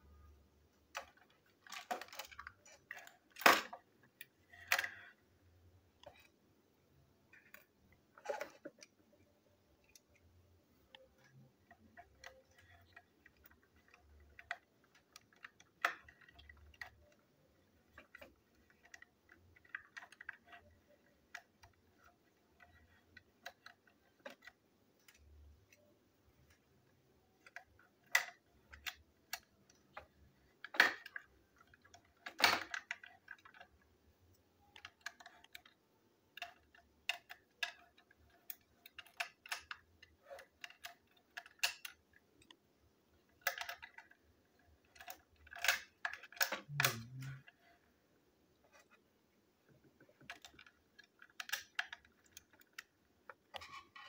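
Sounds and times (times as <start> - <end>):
plastic toy parts clicking: 0.1 - 6.4, 7.2 - 47.9, 49.6 - 54.0.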